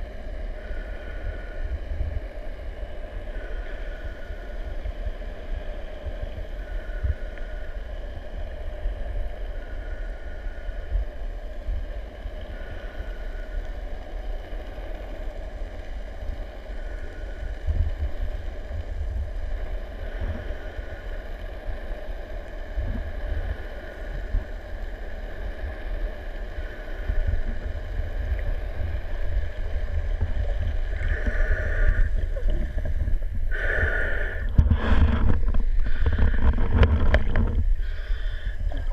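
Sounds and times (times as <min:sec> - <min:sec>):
boat engine hum underwater: 0:00.0 - 0:38.9
underwater rumble of water: 0:00.0 - 0:38.9.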